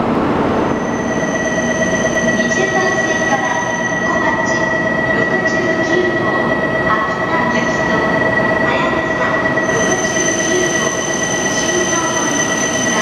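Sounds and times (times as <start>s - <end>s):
constant hum: 0.0s - 13.0s
higher electrical whine: 0.2s - 13.0s
steady electrical whine: 0.3s - 13.0s.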